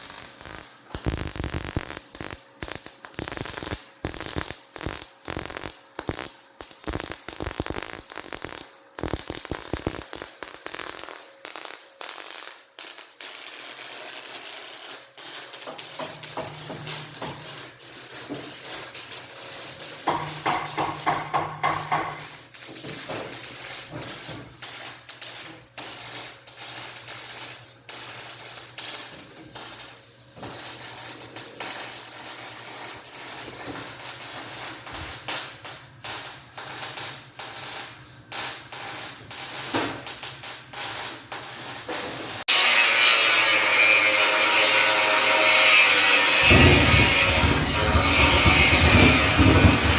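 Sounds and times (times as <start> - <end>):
welding arc crackling: 0.0 - 49.9.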